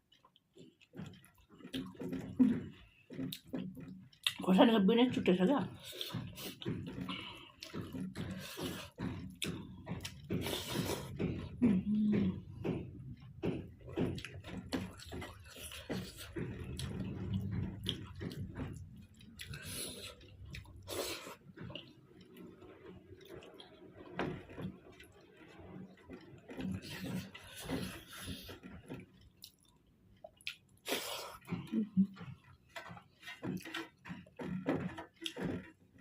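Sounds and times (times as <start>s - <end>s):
wet chewing and lip smacks: 0.0s - 4.4s, 5.8s - 12.1s, 12.8s - 35.7s.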